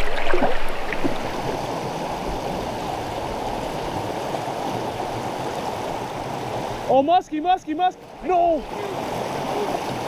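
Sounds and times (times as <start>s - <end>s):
river water rushing over rocks: 0.0s - 7.0s, 8.0s - 10.0s.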